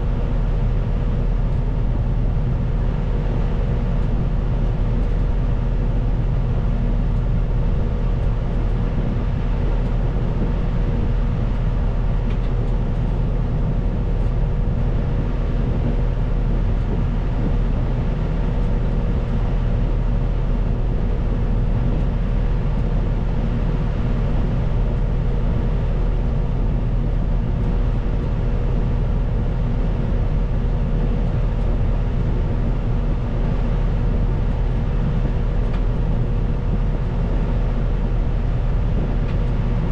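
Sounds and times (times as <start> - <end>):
constant whine: 0.0 - 39.9.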